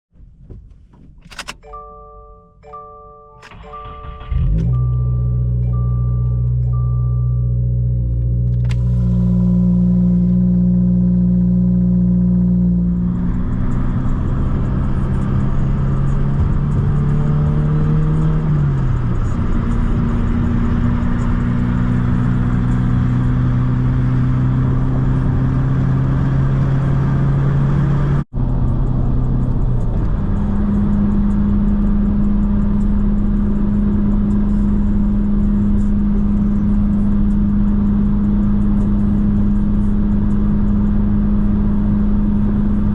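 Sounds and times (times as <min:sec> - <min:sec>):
car engine drone: 0:03.3 - 0:42.9
road noise: 0:03.4 - 0:42.9.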